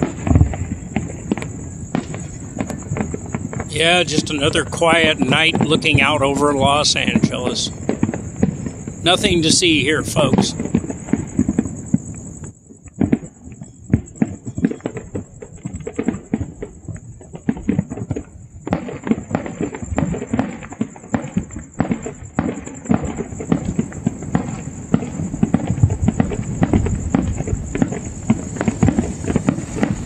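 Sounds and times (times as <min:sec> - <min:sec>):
distant fireworks crackling: 0:00.0 - 0:30.0.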